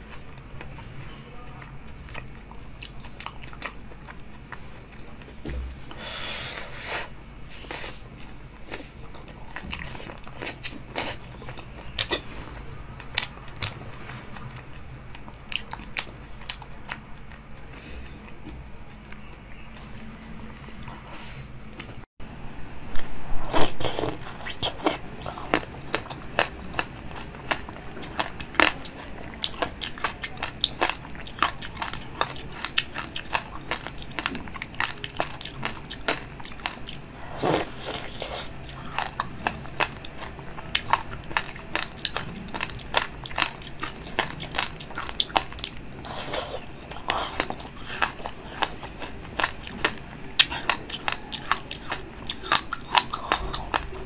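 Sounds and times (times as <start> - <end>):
chewing: 0.0 - 6.0, 7.6 - 21.9, 23.5 - 54.0.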